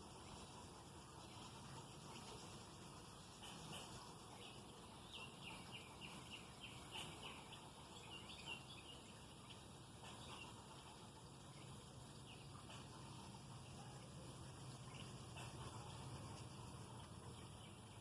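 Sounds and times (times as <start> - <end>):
background hiss: 0.0 - 18.0
small bird chirping: 0.0 - 18.0.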